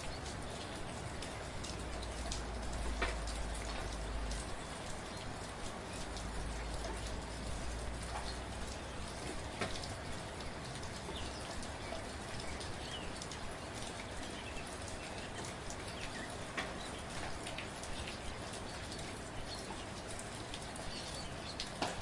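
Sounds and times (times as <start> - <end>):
gentle rain: 0.0 - 22.0
raindrops ticking close by: 0.0 - 22.0.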